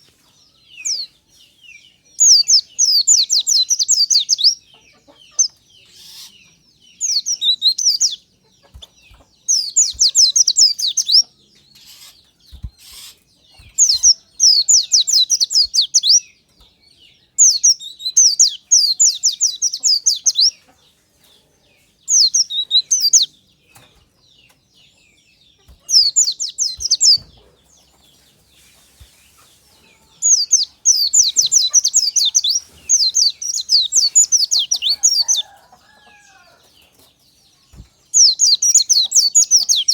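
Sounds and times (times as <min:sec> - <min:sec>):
bird twittering chirps: 0:00.0 - 0:20.7, 0:21.8 - 0:39.9.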